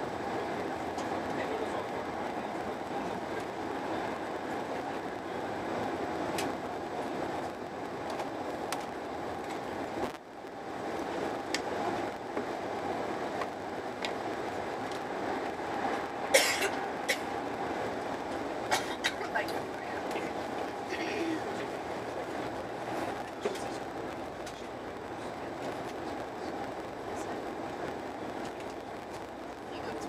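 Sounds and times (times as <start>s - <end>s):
train rumble from inside carriage: 0.0s - 30.0s.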